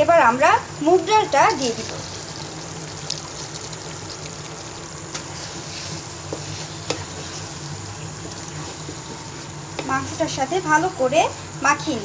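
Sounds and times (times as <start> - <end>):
curry sizzling in pan: 0.2 - 12.0.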